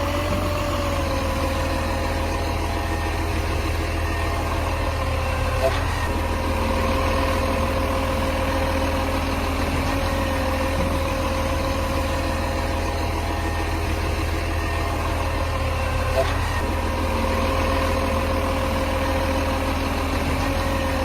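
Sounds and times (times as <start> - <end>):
garbage truck engine idling: 0.0 - 21.0.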